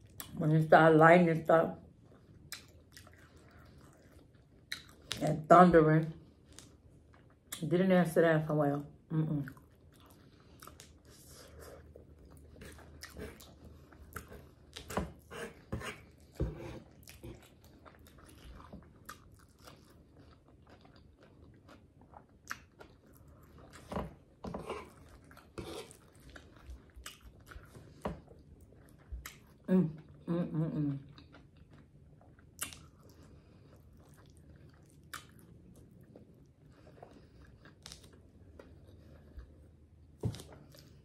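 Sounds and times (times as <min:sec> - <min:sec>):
person chewing and smacking: 0:02.0 - 0:05.2, 0:09.5 - 0:30.2, 0:31.0 - 0:41.0.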